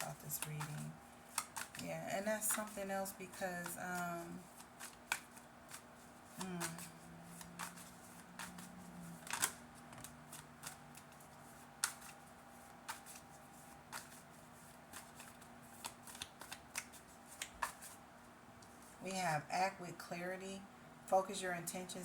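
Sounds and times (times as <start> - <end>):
cards being shuffled: 0.0 - 18.0
faint steady hum: 0.0 - 22.0.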